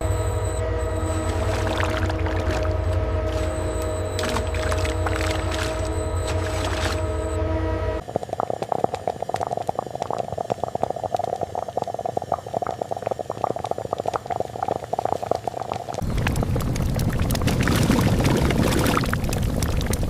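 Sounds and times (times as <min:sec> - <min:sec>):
machine hum: 0:00.0 - 0:20.0
liquid boiling with bubbling pops: 0:01.2 - 0:07.0, 0:08.0 - 0:20.0.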